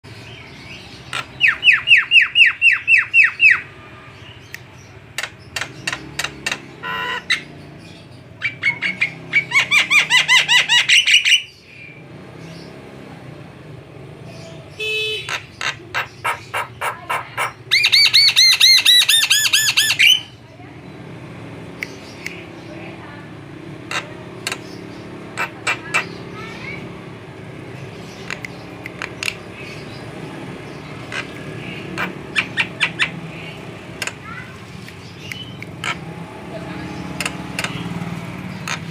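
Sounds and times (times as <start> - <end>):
myna bird chattering calls: 0.2 - 12.8, 14.3 - 21.0, 21.6 - 38.9.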